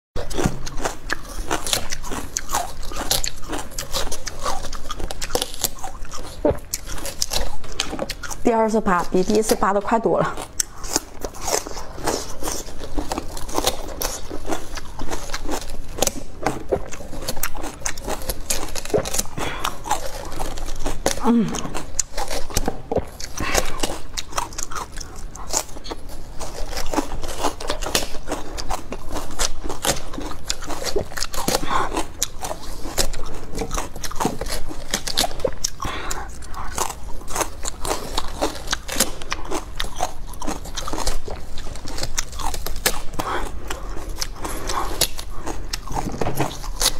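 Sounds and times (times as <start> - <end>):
watermelon rind cracking: 0.2 - 9.6, 10.4 - 46.9.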